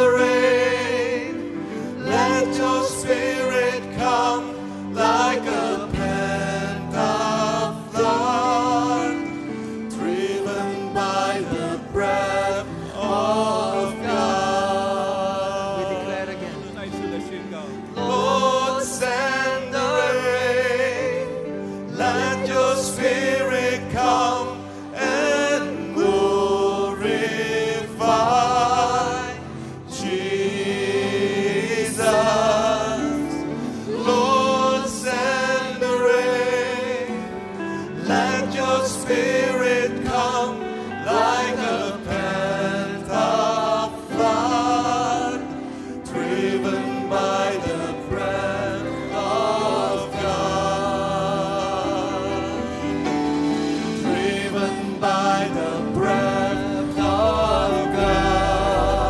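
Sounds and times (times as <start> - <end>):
instrumental accompaniment: 0.0 - 59.0
voices singing gospel together: 0.0 - 59.0.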